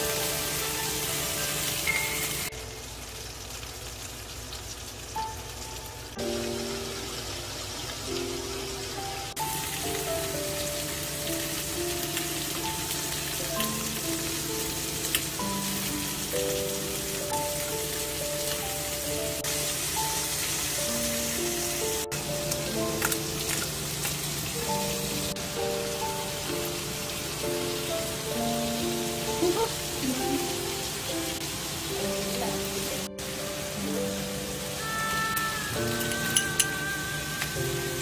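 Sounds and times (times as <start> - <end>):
gentle background music: 0.0 - 3.6, 5.0 - 38.0
oil sizzling in a pan: 0.0 - 38.0.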